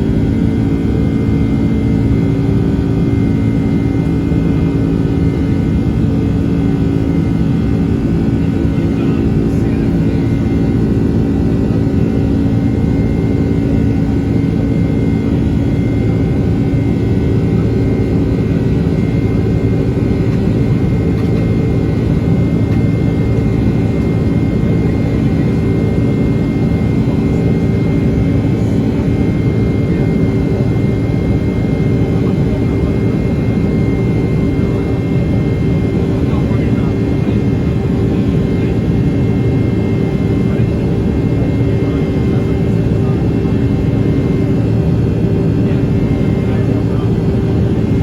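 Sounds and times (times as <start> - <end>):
jet engine and airflow in cabin: 0.0 - 48.0.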